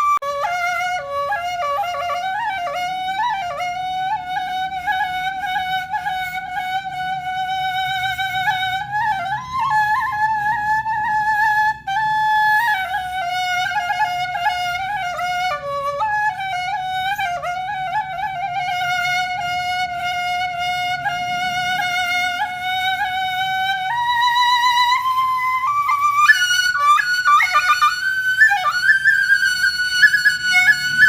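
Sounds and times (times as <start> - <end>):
flute-like woodwind melody: 0.0 - 31.0.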